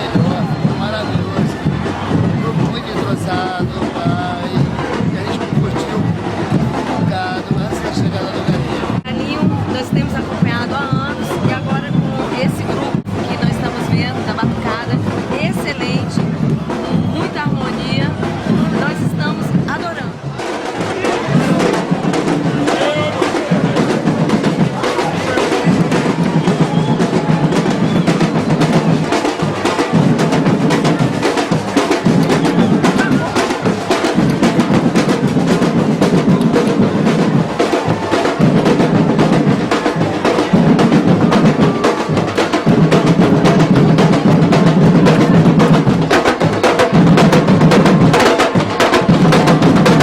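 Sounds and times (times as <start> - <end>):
deep low drum pattern: 0.0 - 50.0
fast drum strokes: 0.0 - 50.0.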